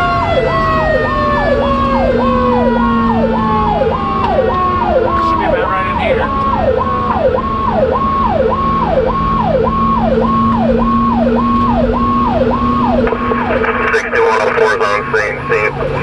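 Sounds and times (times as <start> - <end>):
fire engine siren: 0.0 - 16.0
truck engine and road rumble: 0.0 - 16.0.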